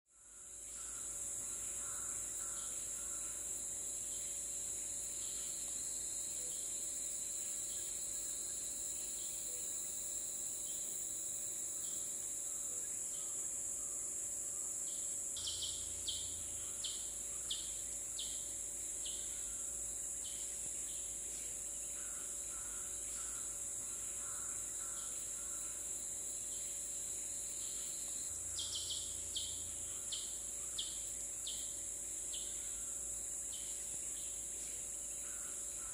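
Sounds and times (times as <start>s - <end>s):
insect chorus drone: 0.1s - 35.9s.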